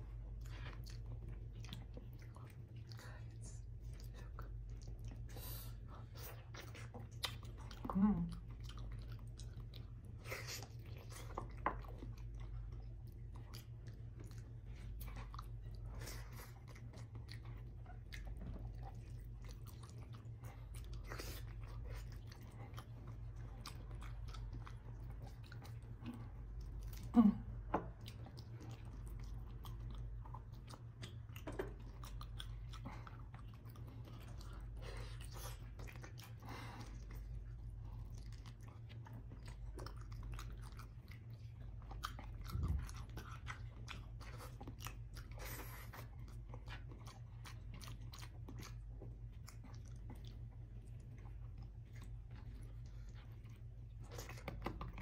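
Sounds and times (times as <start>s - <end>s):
person chewing food: 0.0s - 55.0s
steady low hum: 0.0s - 55.0s.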